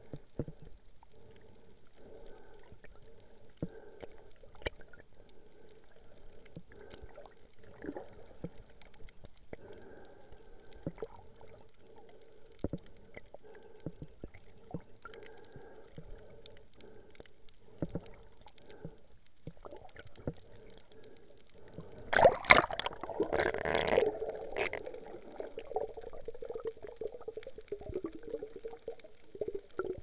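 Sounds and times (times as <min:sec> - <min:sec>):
sharp underwater clicks and crackles: 0:00.0 - 0:30.0.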